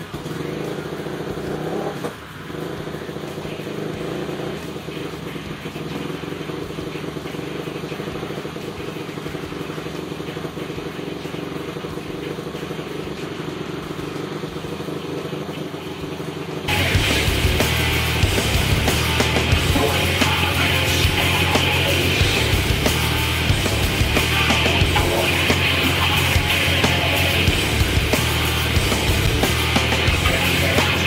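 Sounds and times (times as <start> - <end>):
four-stroke engine idling: 0.0 - 31.0.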